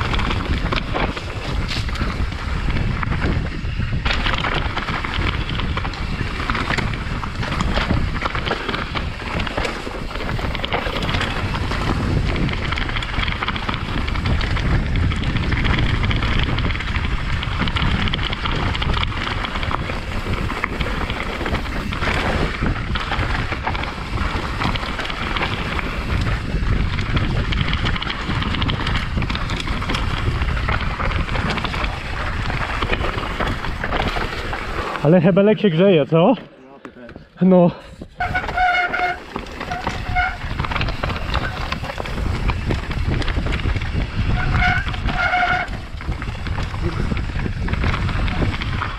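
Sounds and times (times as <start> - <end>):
wind on microphone: 0.0 - 35.1, 37.2 - 48.9
bike rattling over rough trail: 0.0 - 36.4, 37.9 - 48.9.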